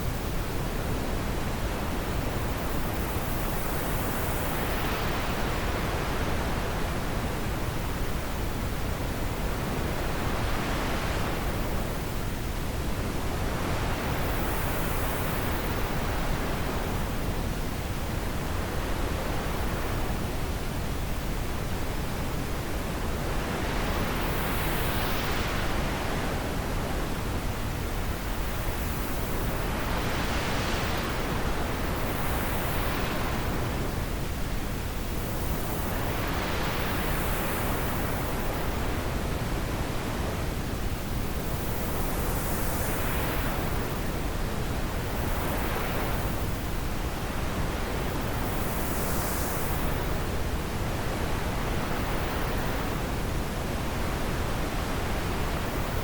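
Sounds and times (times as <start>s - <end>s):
wind blowing in gusts: 0.0s - 56.0s.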